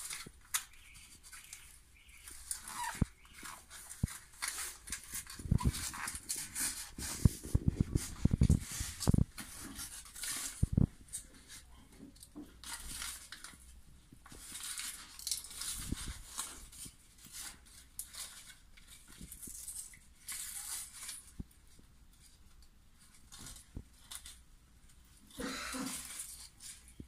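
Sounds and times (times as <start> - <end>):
plastic strip rustling and crackling: 0.0 - 27.0.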